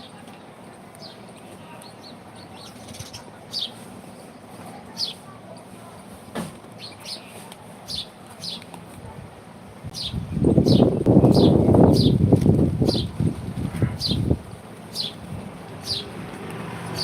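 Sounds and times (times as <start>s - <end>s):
small birds chirping: 0.0s - 8.9s, 9.8s - 17.0s
steady background noise: 0.0s - 17.0s.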